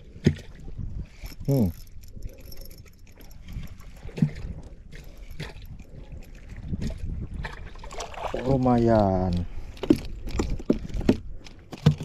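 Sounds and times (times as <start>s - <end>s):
water lapping against boat hull: 0.0s - 12.0s
wind rumble on microphone: 0.0s - 12.0s.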